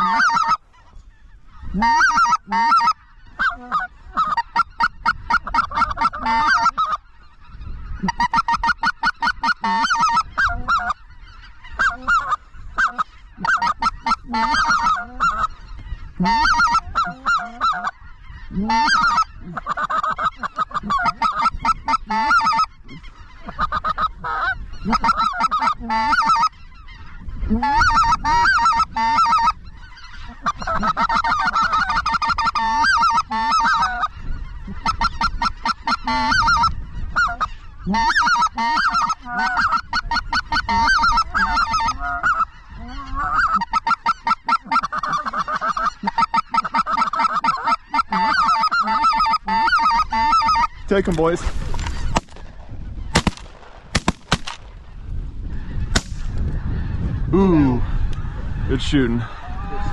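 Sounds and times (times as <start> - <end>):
goose yelping and cackling: 0.0 - 58.7.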